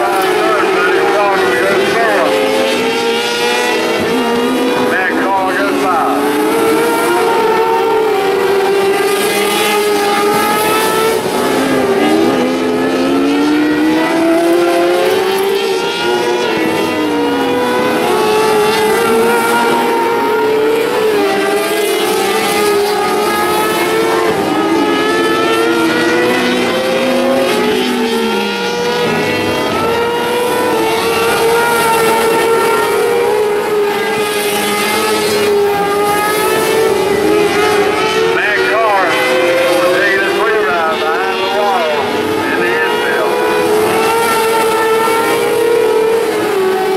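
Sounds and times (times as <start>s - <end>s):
racing car engines revving: 0.0s - 46.9s.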